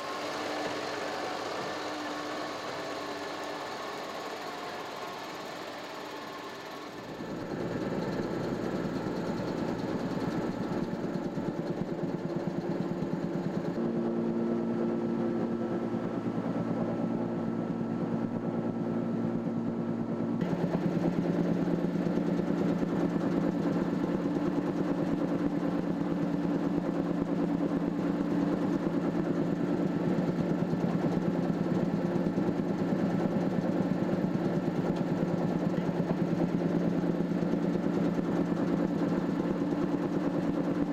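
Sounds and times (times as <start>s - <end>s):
tractor engine with chipper humming: 0.0s - 40.9s.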